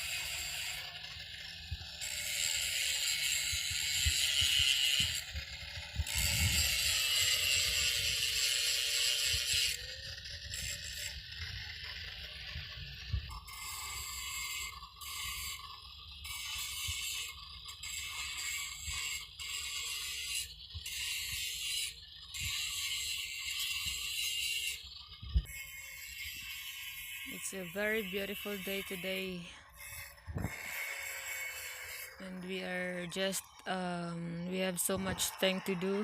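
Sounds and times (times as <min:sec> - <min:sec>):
angle grinder grinding metal: 0:00.0 - 0:36.0.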